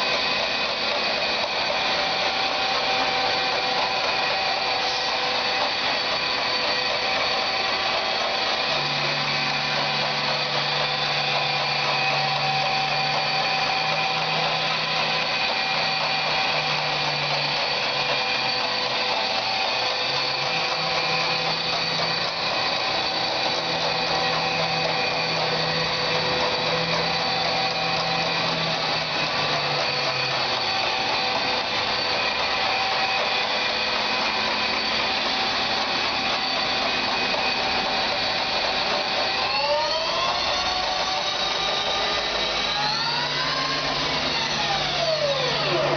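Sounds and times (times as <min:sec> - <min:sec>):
lathe machine whine: 0:00.0 - 0:45.9.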